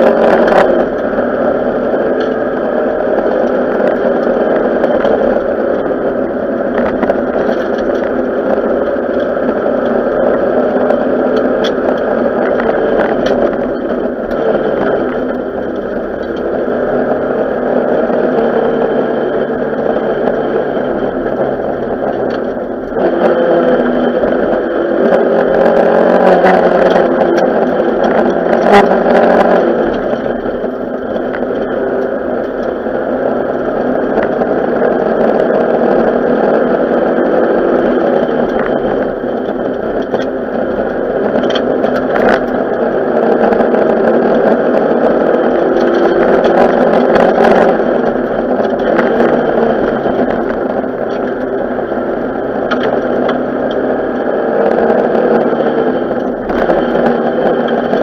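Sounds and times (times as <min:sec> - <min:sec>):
rally car engine from inside cabin: 0:00.0 - 0:58.0.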